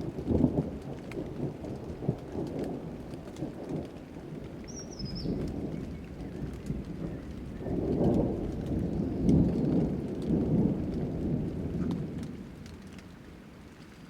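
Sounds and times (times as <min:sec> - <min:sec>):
rolling thunder: 0:00.0 - 0:13.2
raindrop ticks: 0:00.0 - 0:14.0
steady rain: 0:00.0 - 0:14.0.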